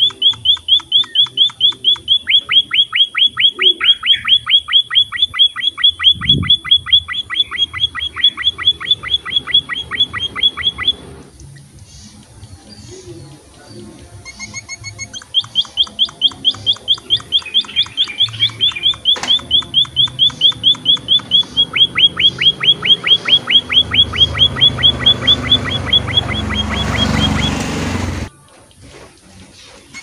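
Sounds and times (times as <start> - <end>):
finch calling high notes: 0.0 - 11.3, 13.4 - 28.3.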